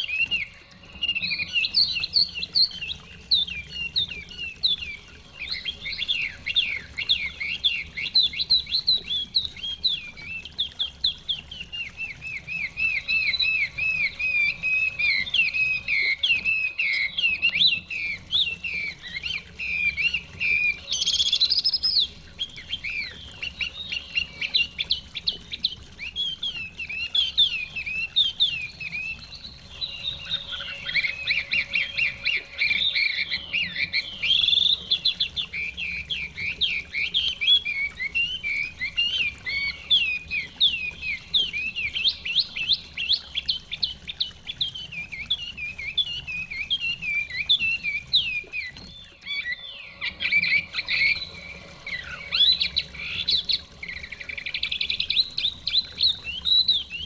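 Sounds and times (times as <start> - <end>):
songbird singing whistled notes: 0.0 - 57.0.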